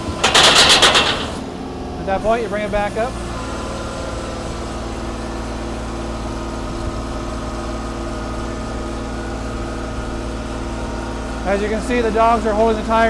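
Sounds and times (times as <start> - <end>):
engine and hydraulic pump running: 0.0 - 13.0.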